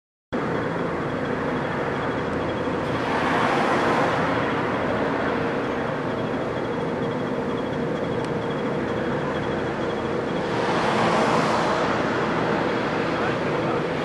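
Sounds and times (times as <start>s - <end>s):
engine humming with thin whine: 0.4s - 14.0s.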